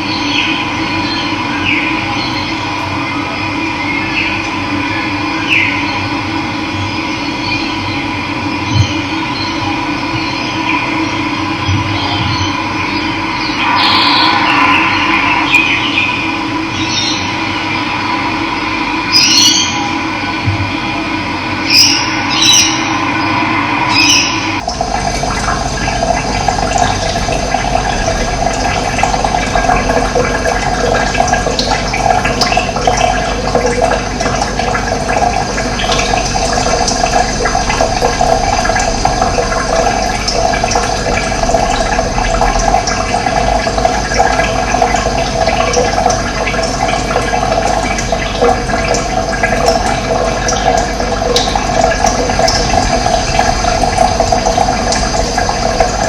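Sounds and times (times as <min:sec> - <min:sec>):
running water gurgling: 0:00.0 - 0:56.0.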